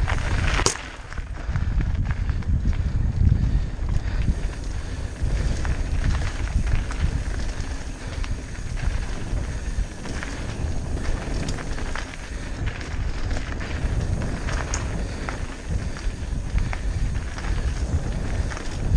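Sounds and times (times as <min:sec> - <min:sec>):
bike rattling and clicking: 0:00.0 - 0:18.9
tyres rumbling over dirt: 0:00.0 - 0:18.9
wind rumble on microphone: 0:00.0 - 0:18.9.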